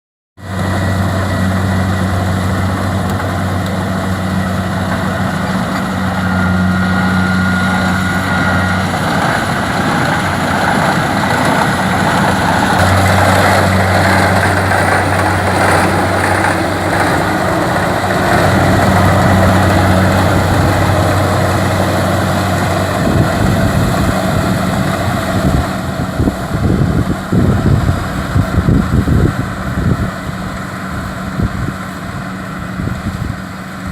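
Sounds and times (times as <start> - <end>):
diesel engine running: 0.4 - 33.9.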